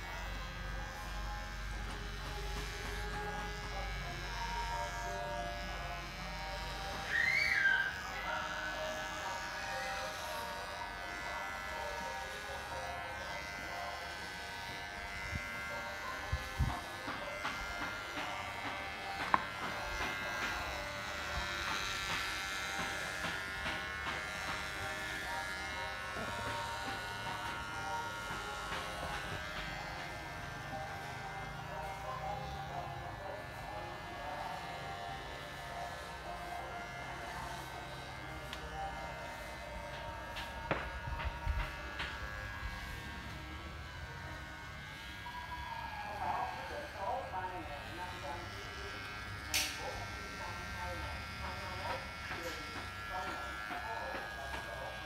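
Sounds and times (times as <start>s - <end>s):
hair clipper buzzing: 0.0s - 55.0s.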